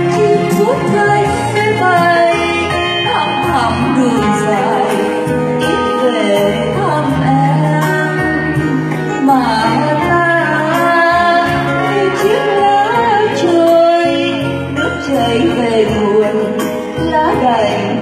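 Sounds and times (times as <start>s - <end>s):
guitar: 0.0s - 18.0s
keyboard: 0.0s - 18.0s
woman singing into a microphone: 0.0s - 18.0s.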